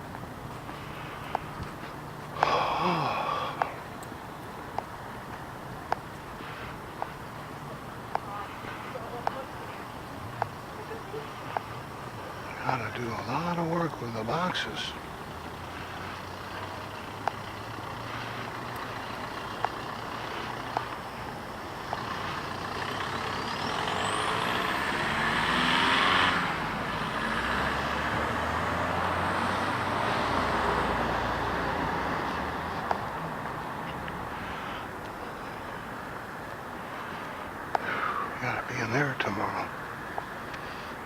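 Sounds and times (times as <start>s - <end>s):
motor vehicle passing by: 5.0s - 41.0s.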